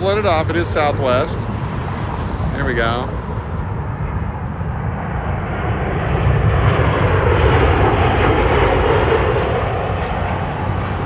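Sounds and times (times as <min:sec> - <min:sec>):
jet airliner passing overhead: 0:00.0 - 0:11.0.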